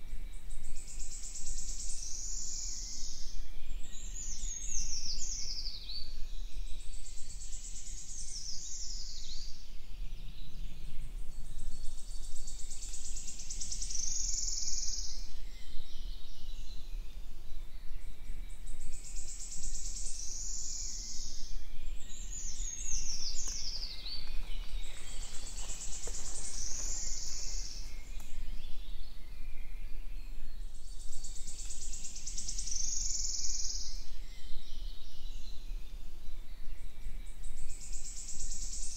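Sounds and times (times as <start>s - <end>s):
low background noise: 0.0s - 38.9s
songbirds singing: 0.0s - 38.9s.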